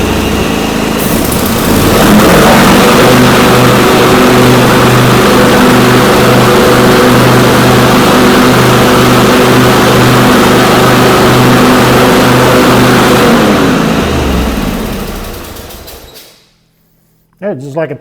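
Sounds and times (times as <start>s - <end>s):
garden tractor engine droning: 0.0s - 16.2s.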